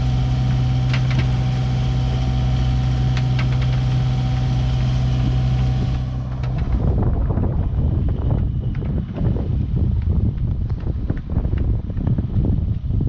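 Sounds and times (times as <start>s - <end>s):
diesel boat engine running: 0.0s - 11.9s.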